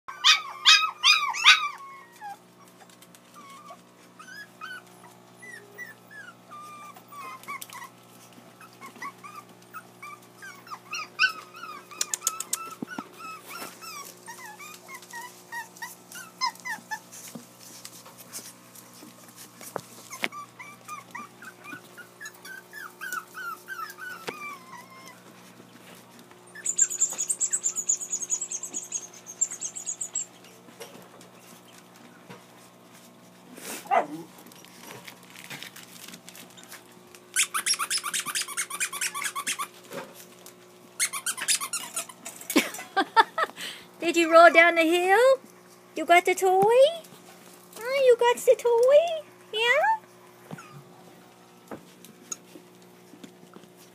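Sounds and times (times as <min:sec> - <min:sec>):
puppies whimpering and whining: 0:00.1 - 0:35.1, 0:35.7 - 0:45.4, 0:47.1 - 0:51.1, 0:51.9 - 0:53.9.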